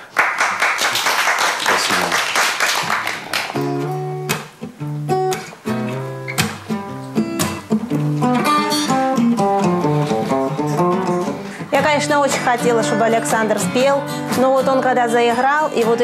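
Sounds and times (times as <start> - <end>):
acoustic guitars playing blues: 2.8 - 16.0.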